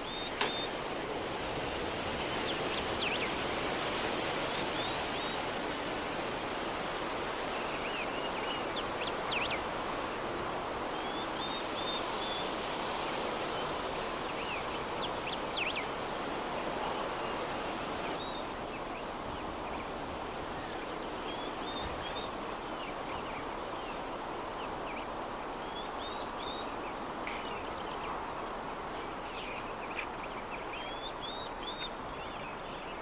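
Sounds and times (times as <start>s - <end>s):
soft breeze: 0.0s - 33.0s.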